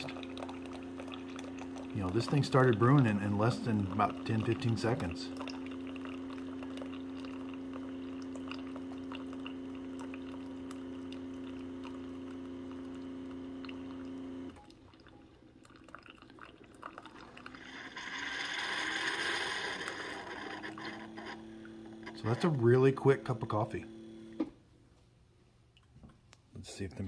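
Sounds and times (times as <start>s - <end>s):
coffee machine hiss: 0.0s - 14.6s, 17.2s - 24.4s
coffee pouring into mug: 0.0s - 24.0s
coffee machine pump humming: 0.0s - 24.6s.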